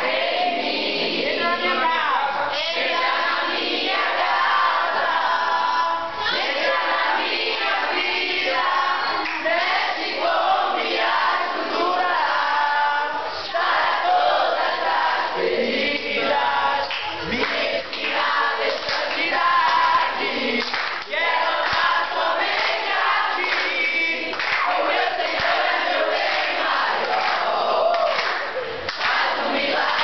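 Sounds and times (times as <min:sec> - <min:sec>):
students singing together: 0:00.0 - 0:30.0.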